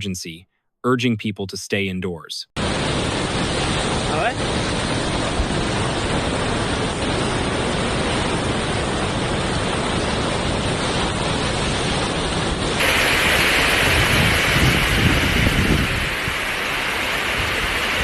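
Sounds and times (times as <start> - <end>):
floodwater rushing: 2.6 - 18.0.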